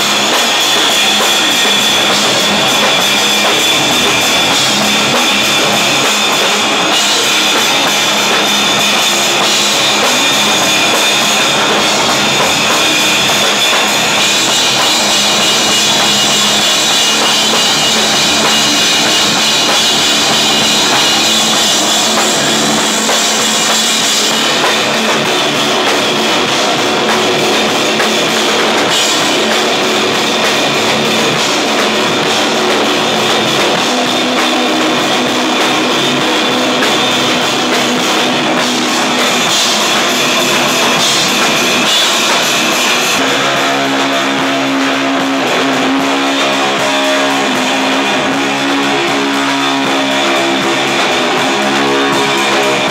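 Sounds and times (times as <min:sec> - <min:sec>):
rock band playing live: 0:00.0 - 0:52.9.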